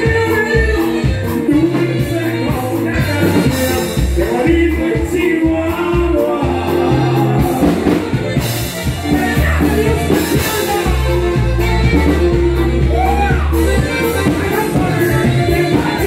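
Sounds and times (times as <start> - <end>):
bass line: 0.0 - 16.0
live band music: 0.0 - 16.0
person singing: 0.0 - 16.0.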